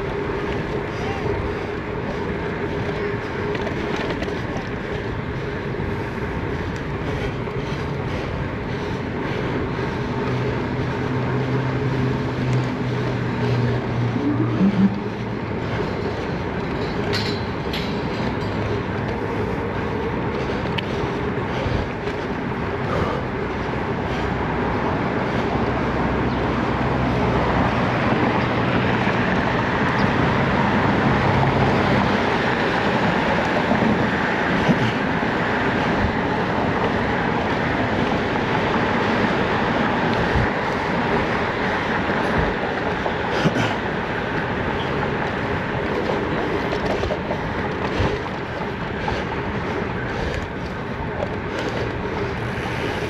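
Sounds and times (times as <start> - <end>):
bicycle road noise: 0.0 - 53.0
traffic: 0.0 - 53.0
wind noise: 0.0 - 53.0.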